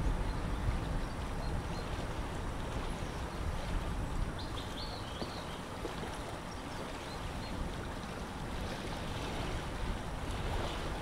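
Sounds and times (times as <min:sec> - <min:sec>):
water lapping: 0:00.0 - 0:11.0
wind: 0:00.0 - 0:11.0
wind rumbling on microphone: 0:00.0 - 0:11.0.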